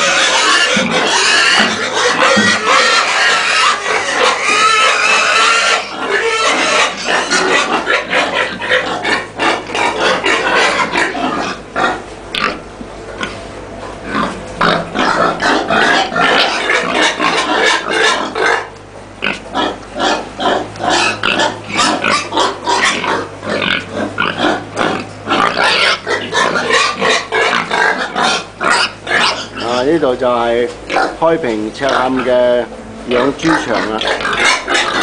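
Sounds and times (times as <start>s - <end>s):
pigs grunting: 0.0s - 35.0s.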